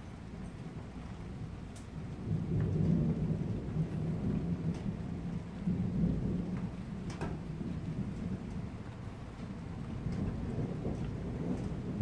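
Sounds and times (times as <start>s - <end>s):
steady rain: 0.0s - 12.0s
thunder rumbling: 1.1s - 12.0s.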